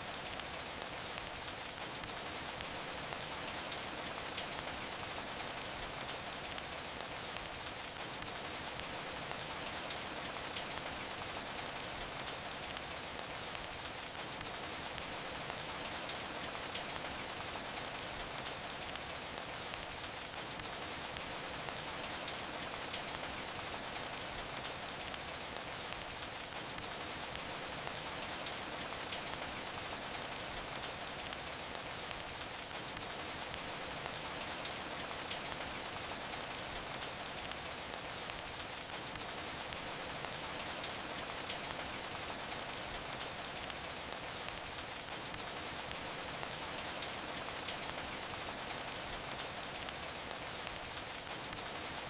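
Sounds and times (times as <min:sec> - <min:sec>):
rain falling: 0:00.0 - 0:52.0
wood fire crackling and popping: 0:00.0 - 0:52.0.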